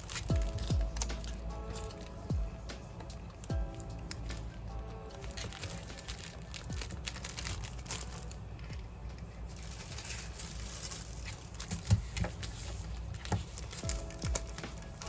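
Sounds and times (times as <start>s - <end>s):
packaging rustling and crinkling: 0.0s - 2.3s, 3.1s - 15.0s.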